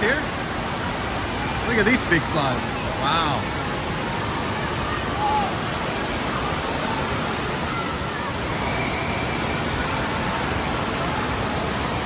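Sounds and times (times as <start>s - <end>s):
running and splashing water: 0.0s - 12.0s
distant voices and shouts: 1.2s - 12.0s.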